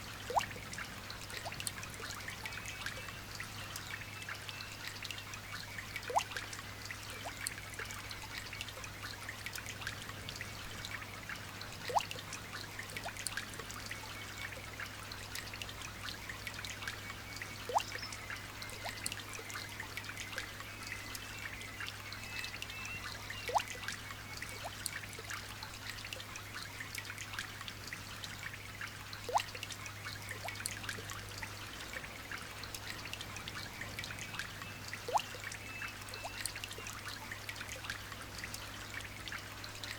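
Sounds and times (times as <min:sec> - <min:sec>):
light rain dripping: 0:00.0 - 0:39.9.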